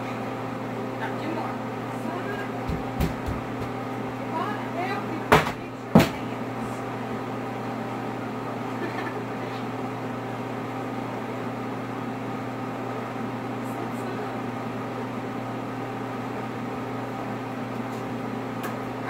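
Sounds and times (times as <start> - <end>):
motor or fan humming: 0.0 - 19.0.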